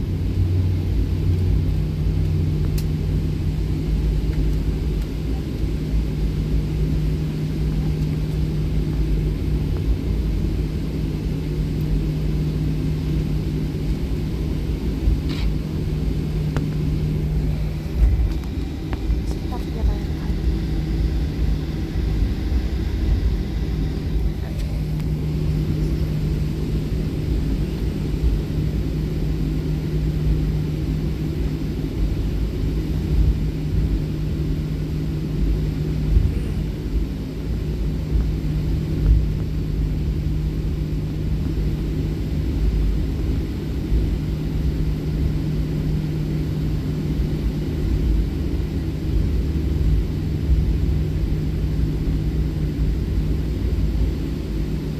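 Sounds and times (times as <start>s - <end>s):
constant cabin hum: 0.0s - 54.9s
jet engines rumbling: 0.0s - 54.9s.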